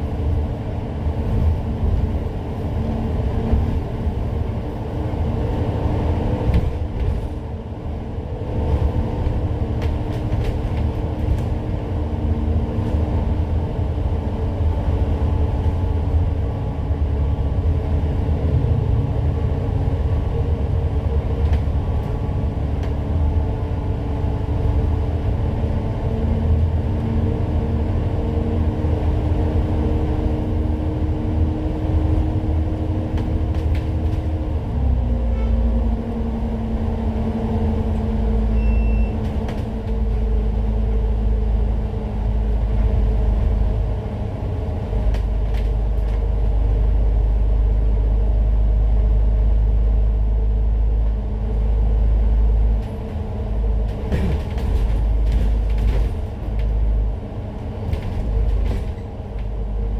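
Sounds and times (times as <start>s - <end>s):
bus engine rumble with whine: 0.0s - 59.9s.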